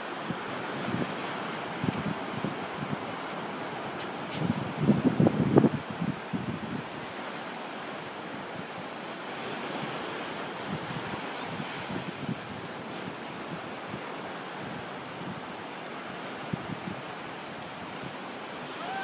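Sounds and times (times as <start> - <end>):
ocean surf breaking: 0.0 - 19.0
wind buffeting microphone: 0.2 - 7.4, 8.3 - 19.0.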